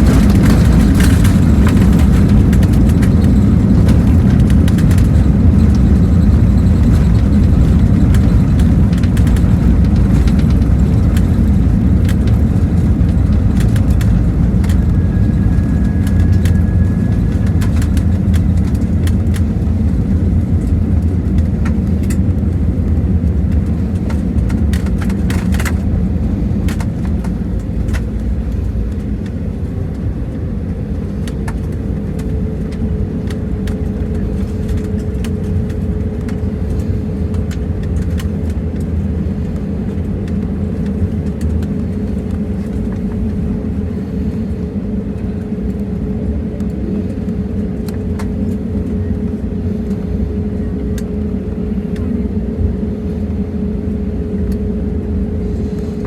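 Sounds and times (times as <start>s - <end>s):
aircraft wheels and engines rumbling: 0.0s - 56.0s.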